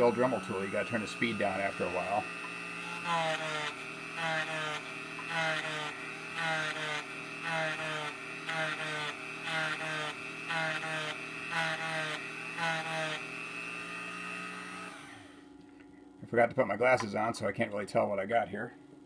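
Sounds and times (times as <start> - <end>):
rotary tool grinding whine: 0.0 - 15.6.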